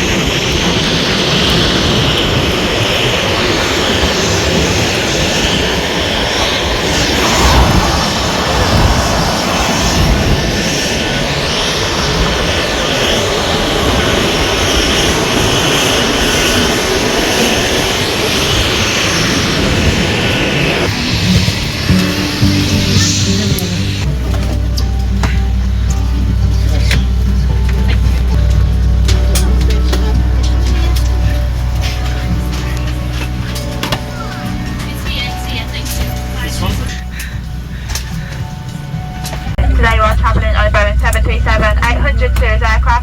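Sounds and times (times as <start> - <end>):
jet engines rushing: 0.0 - 43.0.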